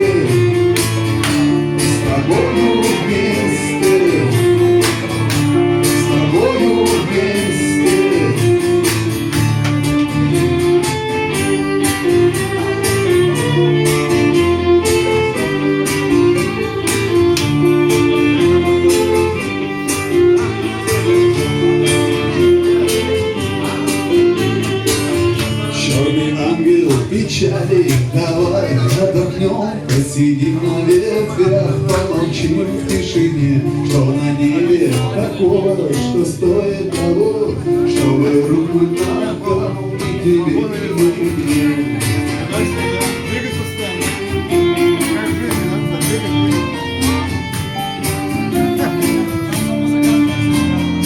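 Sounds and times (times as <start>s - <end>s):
rock ballad guitar and bass: 0.0s - 51.0s.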